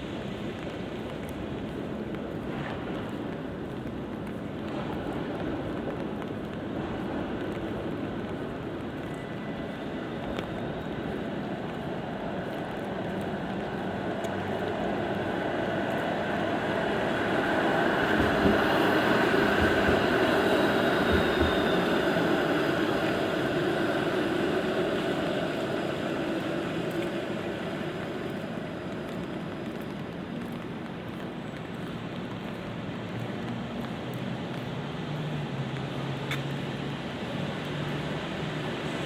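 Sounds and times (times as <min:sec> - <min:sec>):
vehicle passing on wet street: 0:00.0 - 0:39.0.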